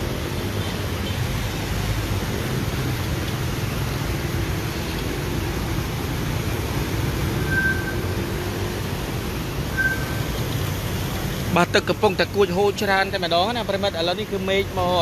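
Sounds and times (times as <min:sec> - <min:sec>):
engines rumbling: 0:00.0 - 0:15.0
moving water: 0:00.0 - 0:15.0.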